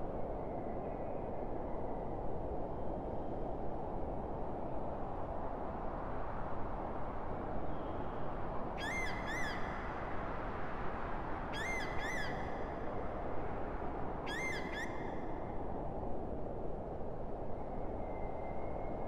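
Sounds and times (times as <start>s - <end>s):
low wind: 0.0s - 19.0s.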